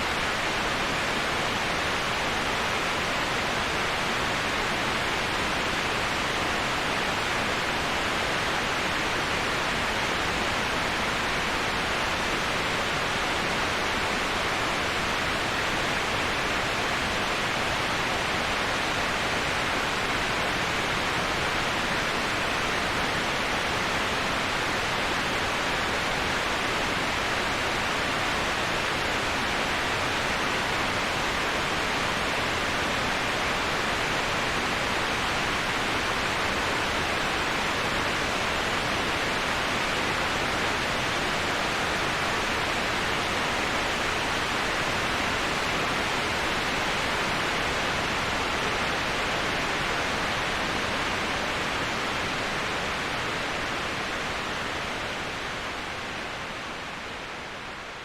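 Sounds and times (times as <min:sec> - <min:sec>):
rush of falling water: 0:00.0 - 0:58.0.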